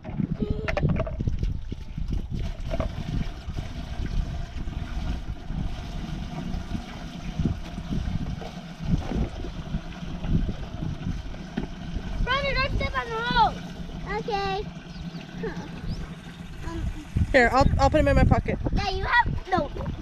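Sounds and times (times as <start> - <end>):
wind on microphone: 0.0 - 14.6, 15.4 - 20.0
hose water trickling: 0.4 - 20.0.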